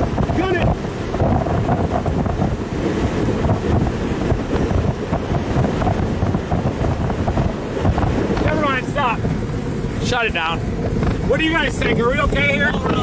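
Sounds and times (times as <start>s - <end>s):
strong gusty wind on microphone: 0.0s - 13.0s.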